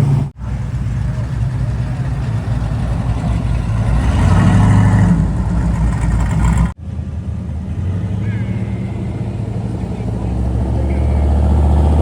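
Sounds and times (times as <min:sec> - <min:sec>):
car engines rumbling past: 0:00.0 - 0:12.0.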